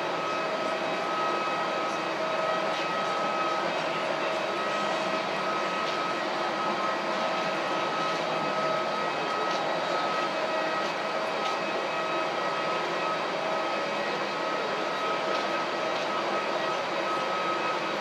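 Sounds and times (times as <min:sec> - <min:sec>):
high whine: 0:00.0 - 0:18.0
mechanical hum: 0:00.0 - 0:18.0.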